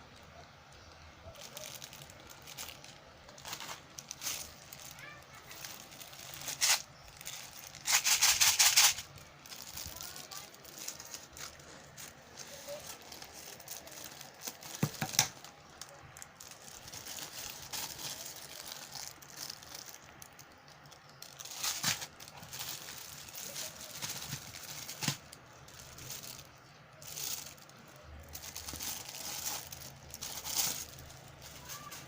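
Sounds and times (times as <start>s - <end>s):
plastic packaging crinkling: 0.8s - 32.0s.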